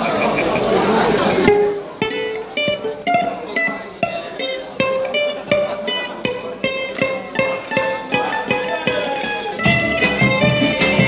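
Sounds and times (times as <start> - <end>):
mandolin picking melody: 0.0 - 11.0.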